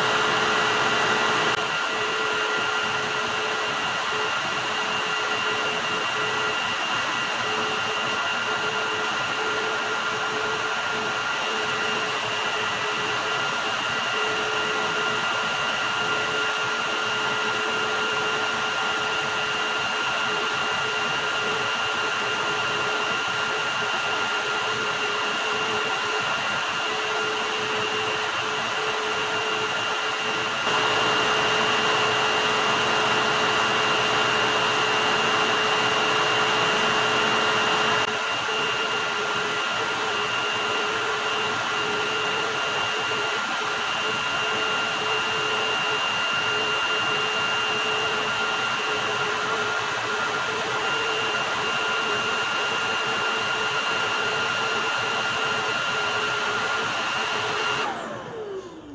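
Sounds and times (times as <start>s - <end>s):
vacuum cleaner motor whine: 0.0s - 58.9s.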